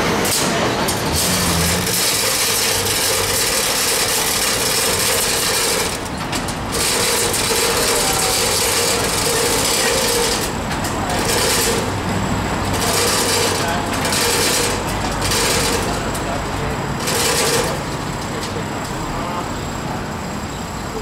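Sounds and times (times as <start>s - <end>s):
boom lift motor and hydraulics whining: 0.0s - 21.0s.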